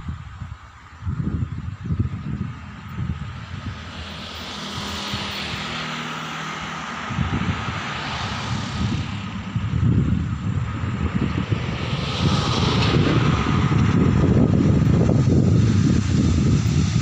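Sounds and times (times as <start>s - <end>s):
diesel train engine drone: 0.0s - 17.0s
train rushing: 2.4s - 17.0s.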